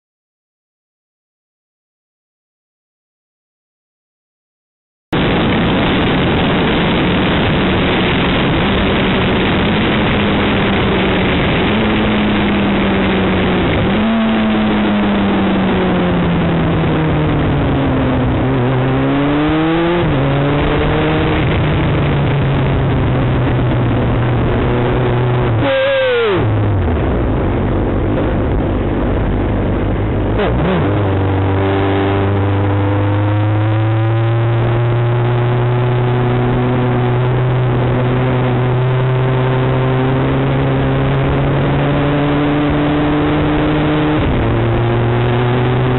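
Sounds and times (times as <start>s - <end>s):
wind rushing on helmet: 5.1s - 45.9s
motorcycle engine revving: 5.2s - 45.9s.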